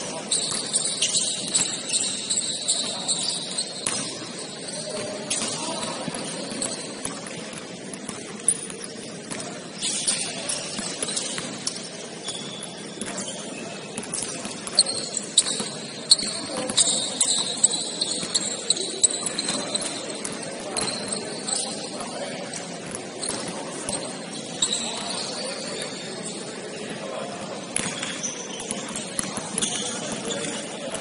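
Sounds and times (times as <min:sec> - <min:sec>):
players' voices: 0:00.0 - 0:31.0
sneakers squeaking on court: 0:00.0 - 0:31.0.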